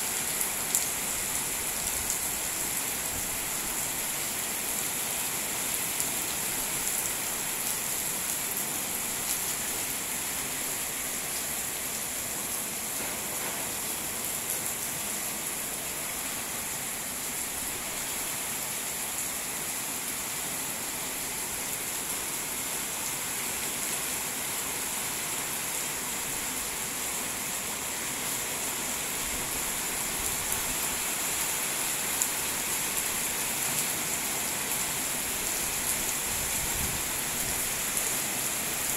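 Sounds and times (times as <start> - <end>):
raindrops: 0.0 - 38.9
steady rain falling: 0.0 - 38.9.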